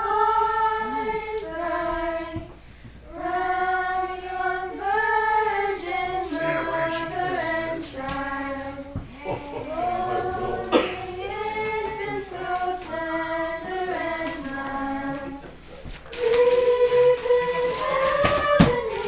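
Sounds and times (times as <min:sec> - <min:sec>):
group singing a carol: 0:00.0 - 0:19.0.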